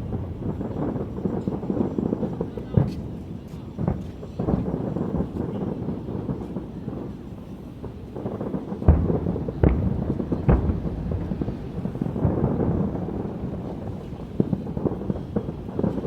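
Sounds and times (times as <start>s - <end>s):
fireworks bursting: 0.0s - 16.0s
low rumble and crackle: 0.0s - 16.0s
sharp firework booms: 0.0s - 16.0s.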